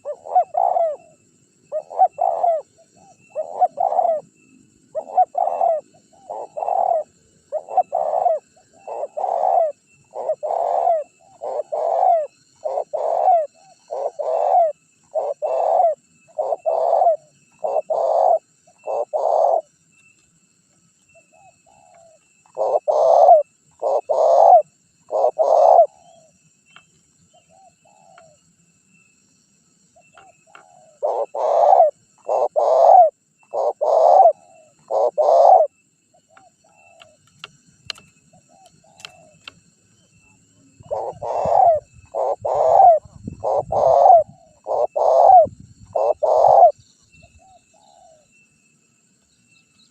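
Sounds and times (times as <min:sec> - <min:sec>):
dove cooing: 0:00.0 - 0:19.7, 0:21.1 - 0:26.3, 0:27.3 - 0:28.4, 0:30.0 - 0:39.6, 0:40.6 - 0:46.8, 0:47.4 - 0:48.3.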